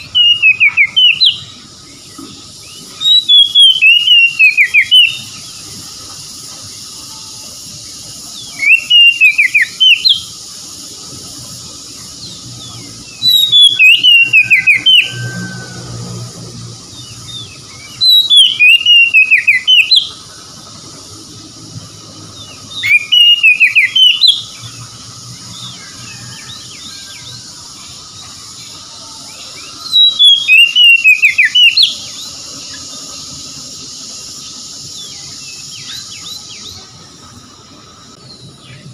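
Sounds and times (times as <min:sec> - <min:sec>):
bird whistled song: 0:00.0 - 0:38.9.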